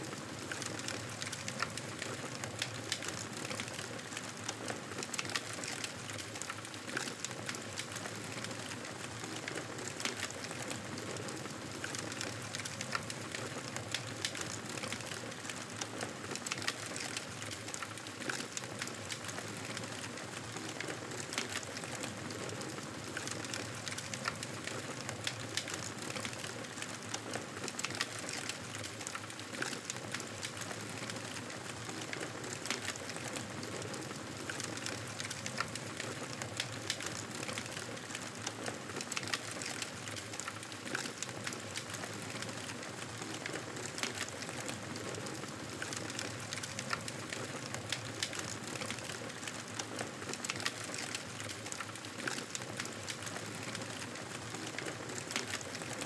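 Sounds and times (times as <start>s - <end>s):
campfire crackling and hissing: 0.0s - 56.0s.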